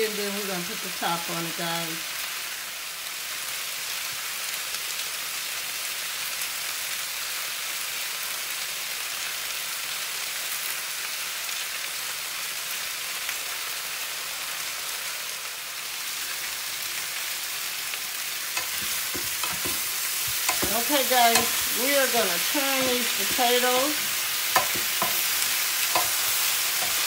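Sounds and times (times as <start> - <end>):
potatoes sizzling in oil: 0.0 - 27.0.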